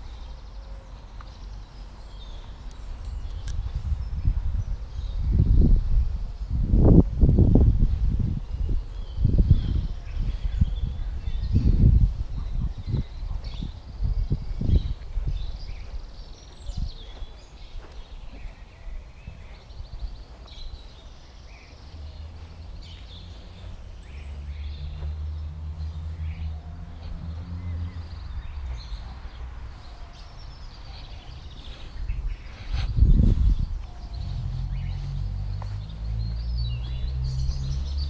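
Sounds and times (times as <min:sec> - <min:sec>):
small birds chirping and singing: 0:00.0 - 0:38.0.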